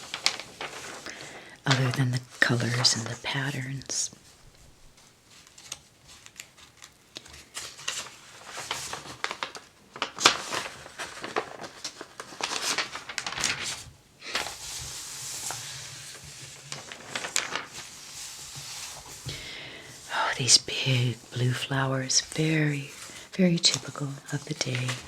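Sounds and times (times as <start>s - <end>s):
paper pages rustling: 0.0s - 25.0s.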